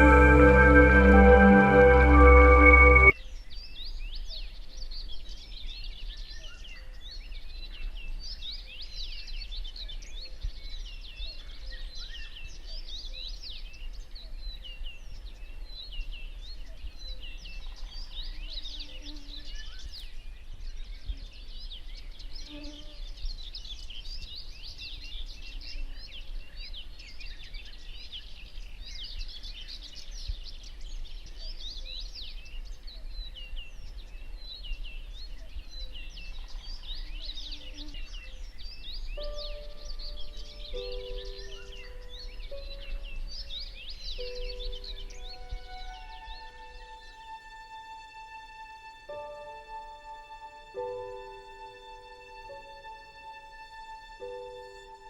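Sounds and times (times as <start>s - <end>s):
songbird chorus: 3.7s - 55.0s.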